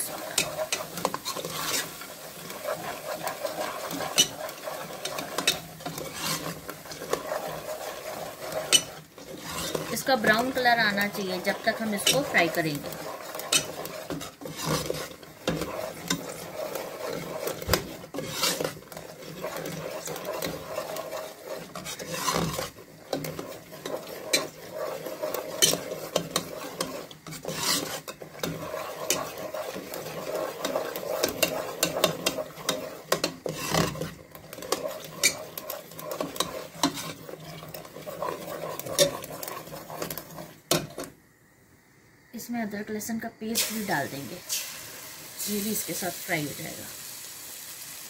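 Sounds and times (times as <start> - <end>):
ladle scraping metal pot: 0.0 - 41.1
light sizzle: 0.0 - 48.0.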